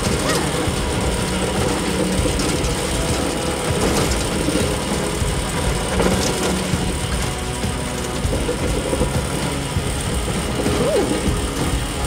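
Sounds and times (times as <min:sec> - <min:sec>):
cart rolling on rails: 0:00.0 - 0:12.0.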